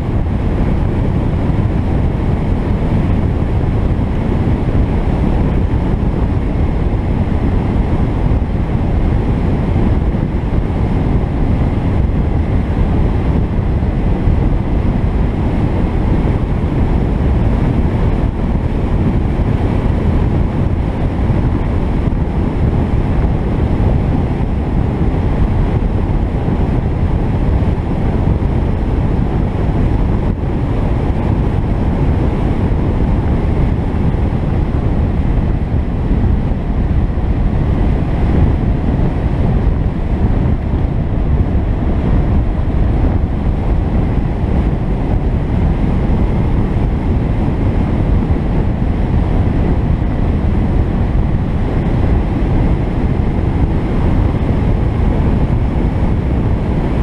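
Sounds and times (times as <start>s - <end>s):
car road noise: 0.0s - 57.0s
wind rumble on microphone: 0.0s - 57.0s.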